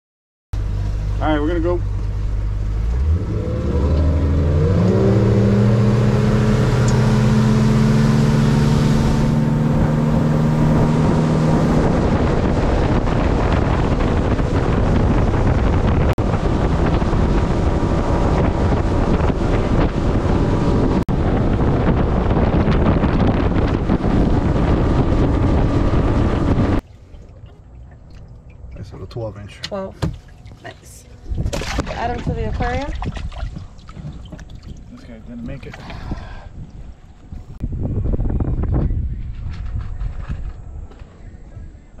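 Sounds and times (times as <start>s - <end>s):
outboard motor throttling up: 0.6s - 37.6s
wind and water rushing: 0.8s - 38.1s.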